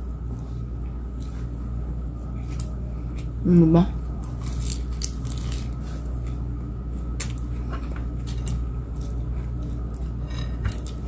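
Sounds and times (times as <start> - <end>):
low background hum: 0.0 - 11.0
person chewing a raw leaf: 0.3 - 3.4, 4.1 - 11.0.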